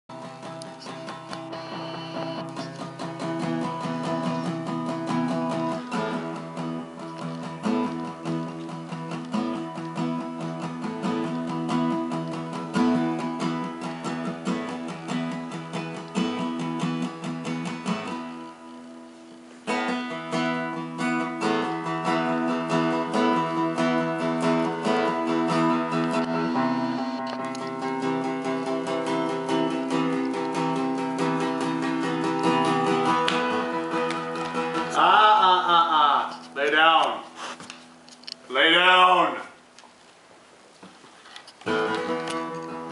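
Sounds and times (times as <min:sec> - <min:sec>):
guitar plucking and strumming: 0:00.1 - 0:39.4, 0:40.9 - 0:42.9.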